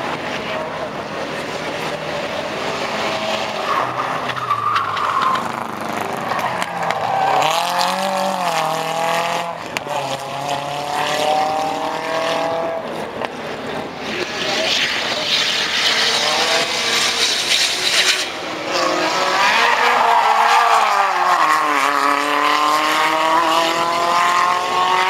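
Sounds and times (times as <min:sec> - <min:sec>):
other race car engines: 0:00.0 - 0:25.0
race car engine revving: 0:00.0 - 0:25.0.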